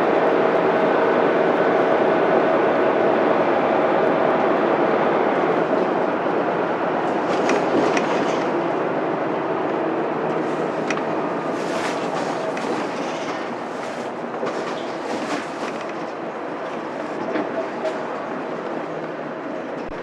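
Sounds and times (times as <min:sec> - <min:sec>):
bus body rattles and clicks: 0:00.0 - 0:20.0
diesel bus engine droning: 0:00.0 - 0:20.0
road noise: 0:00.0 - 0:20.0.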